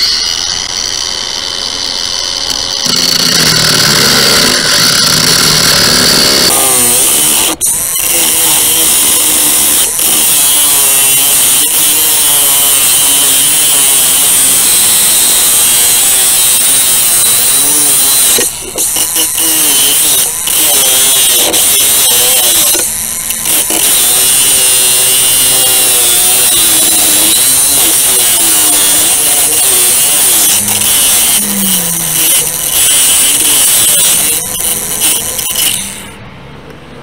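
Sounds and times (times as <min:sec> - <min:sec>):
angle grinder cutting metal: 0:00.0 - 0:36.3.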